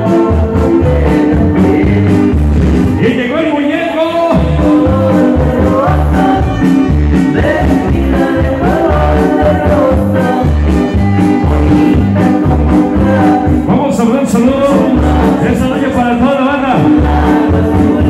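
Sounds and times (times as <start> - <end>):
latin dance music with singer: 0.0 - 18.0.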